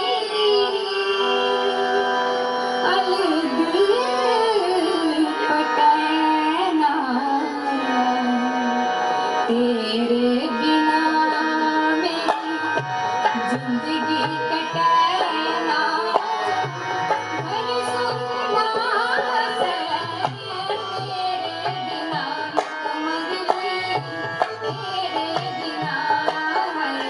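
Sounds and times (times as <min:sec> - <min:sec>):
woman singing: 0:00.0 - 0:02.1, 0:02.8 - 0:27.0.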